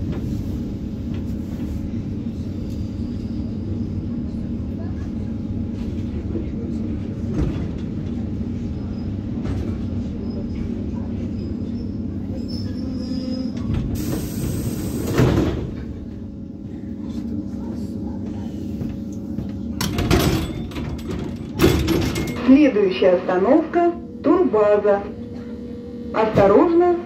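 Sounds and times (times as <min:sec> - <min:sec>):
electric train low hum: 0:00.0 - 0:27.0.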